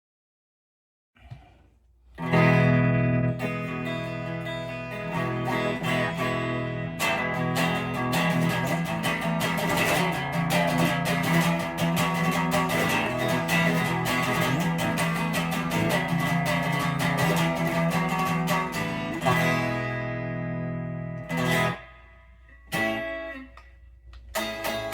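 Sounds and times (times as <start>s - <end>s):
electric guitar chords and notes: 2.2s - 24.9s.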